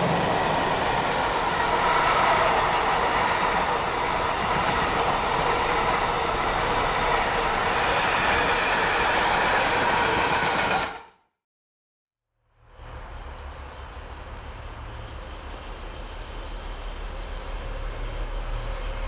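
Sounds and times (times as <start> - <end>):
train wheels rumbling on rails: 0.0 - 11.1, 12.7 - 19.0.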